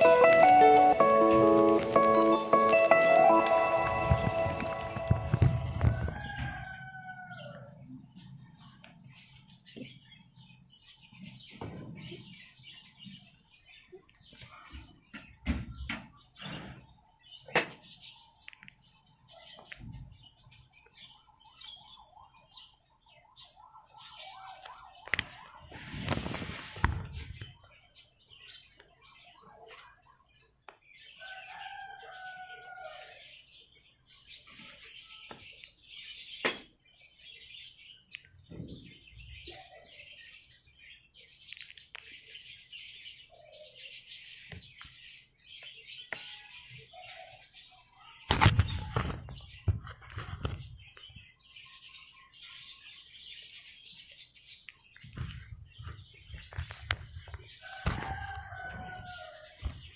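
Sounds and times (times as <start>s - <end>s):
small birds chirping and twittering: 0.0s - 59.9s.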